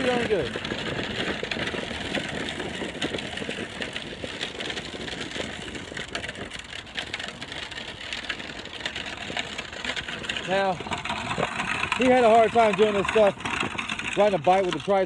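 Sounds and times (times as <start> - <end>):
plastic wheels rolling on asphalt: 0.0 - 15.0.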